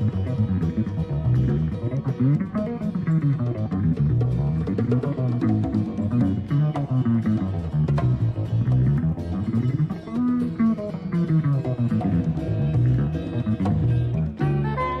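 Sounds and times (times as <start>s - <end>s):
bass line: 0.0s - 15.0s
live jazz fusion band: 0.0s - 15.0s
plucked guitar: 0.0s - 15.0s.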